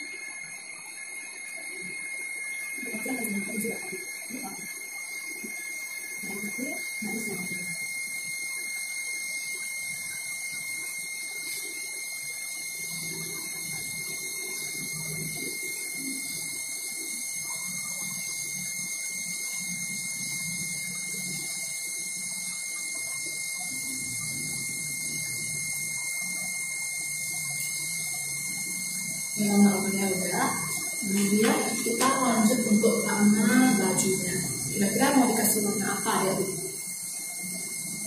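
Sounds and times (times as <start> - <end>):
high-pitched whine: 0.0 - 38.0.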